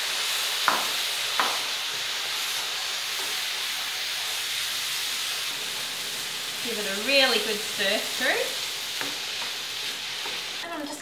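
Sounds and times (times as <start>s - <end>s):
rice sizzling in a frying pan: 0.0s - 11.0s.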